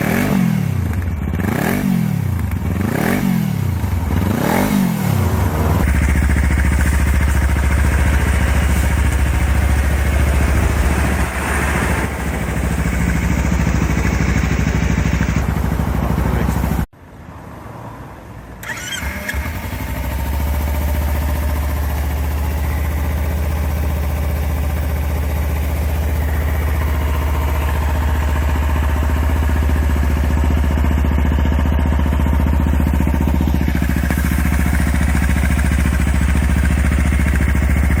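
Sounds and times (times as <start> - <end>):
motorcycle exhaust idling: 0.0 - 16.9, 19.6 - 38.0.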